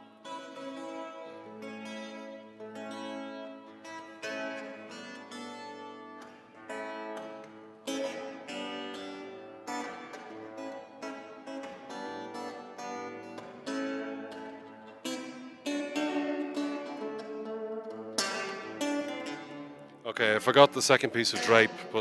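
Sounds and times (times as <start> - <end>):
acoustic guitar picking: 3.8 - 22.0.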